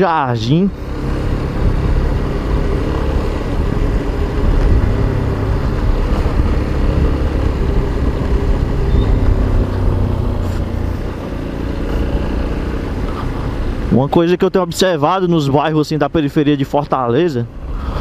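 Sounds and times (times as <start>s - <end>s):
motorcycle engine running: 0.0s - 14.5s
wind and road noise: 0.0s - 18.0s.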